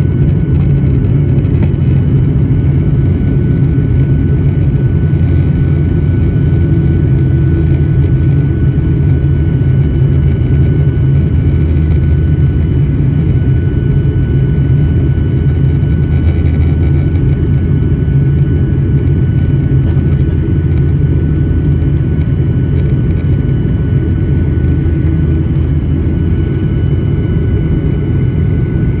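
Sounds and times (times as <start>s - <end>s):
jet engines and airflow rumble: 0.0s - 29.0s.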